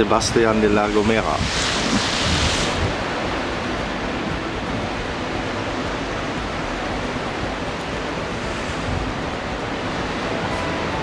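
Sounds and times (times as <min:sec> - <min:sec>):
rough sea: 0:00.0 - 0:11.0
strong wind: 0:00.0 - 0:11.0
wind buffeting microphone: 0:00.0 - 0:11.0.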